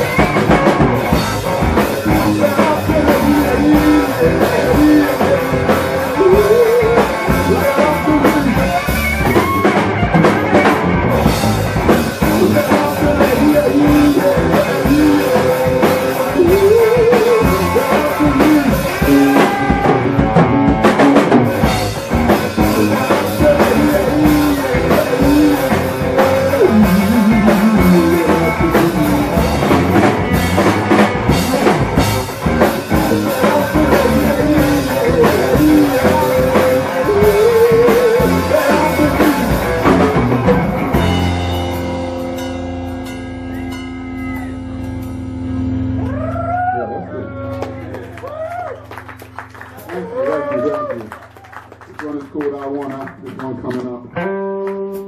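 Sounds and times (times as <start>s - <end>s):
drum kit: 0.0s - 47.0s
electric guitar: 0.0s - 55.0s
live rock band playing: 0.0s - 55.0s.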